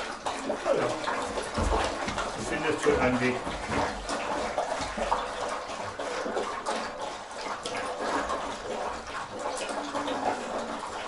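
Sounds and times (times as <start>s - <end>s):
dogs lapping liquid: 0.0s - 11.0s.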